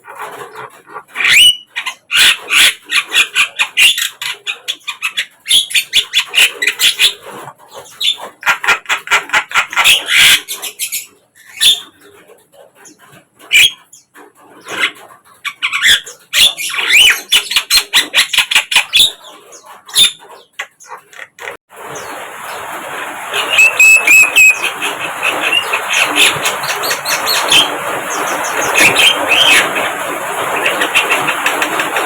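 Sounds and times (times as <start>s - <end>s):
bird harsh chirps and squawks: 0.0s - 32.0s.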